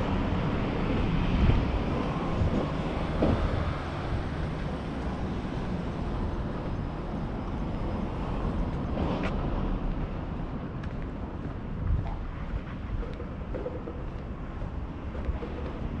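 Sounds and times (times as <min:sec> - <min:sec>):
road traffic: 0:00.0 - 0:16.0
wind rumbling on microphone: 0:00.0 - 0:16.0.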